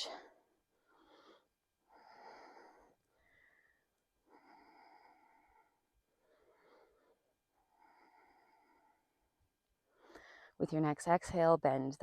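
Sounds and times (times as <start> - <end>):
person breathing slowly: 0.0 - 10.6.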